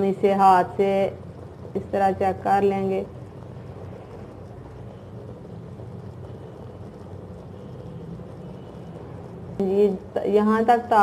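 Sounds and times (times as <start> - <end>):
syrup boiling in a pot: 0.0 - 11.0.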